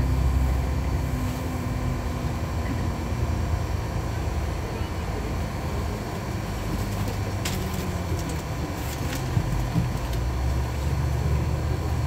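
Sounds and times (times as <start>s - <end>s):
bus engine hum: 0.0s - 12.0s
road noise: 0.0s - 12.0s.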